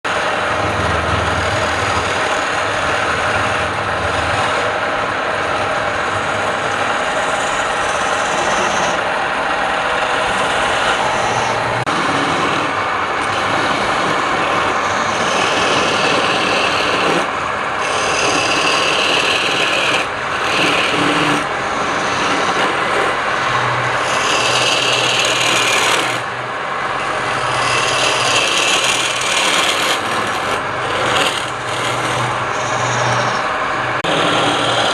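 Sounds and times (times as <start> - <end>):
lathe motor hum: 0.0 - 34.9
tool rasping on turning wood: 0.1 - 4.7, 6.5 - 9.0, 10.3 - 26.3, 27.0 - 34.9.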